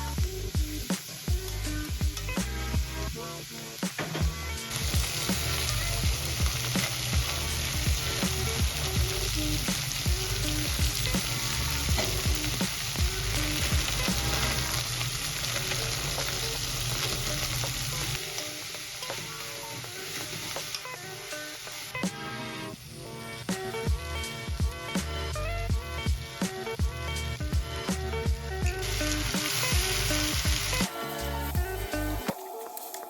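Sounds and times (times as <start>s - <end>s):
background music with bass: 0.0s - 18.2s, 22.0s - 32.3s
food sizzling in pan: 0.0s - 33.0s.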